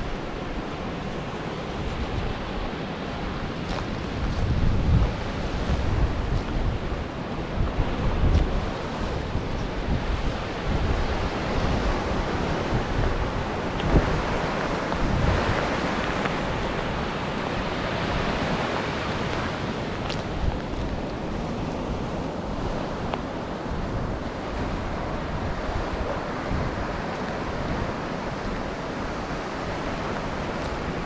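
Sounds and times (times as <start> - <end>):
surf breaking on beach: 0.0 - 31.0
wind buffeting microphone: 0.0 - 31.0.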